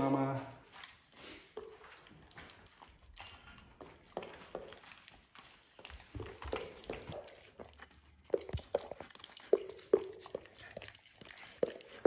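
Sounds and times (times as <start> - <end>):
dog chewing and tearing meat: 0.6 - 12.0.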